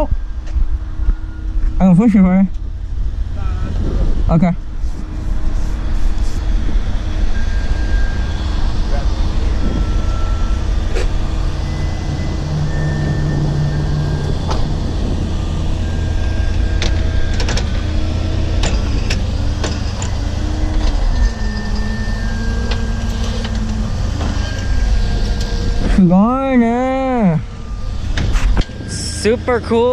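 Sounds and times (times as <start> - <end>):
short whining tones: 0.0 - 3.8, 4.6 - 29.9
vehicle engine rumbling: 0.0 - 29.9.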